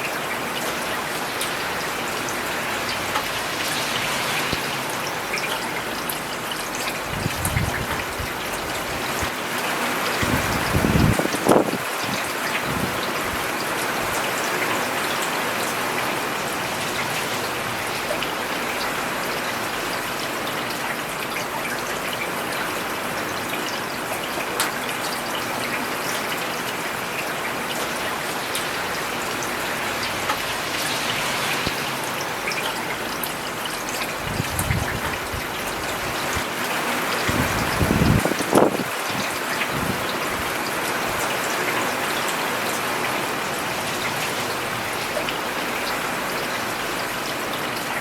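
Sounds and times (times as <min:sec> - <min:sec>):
rain on paved road: 0:00.0 - 0:48.0.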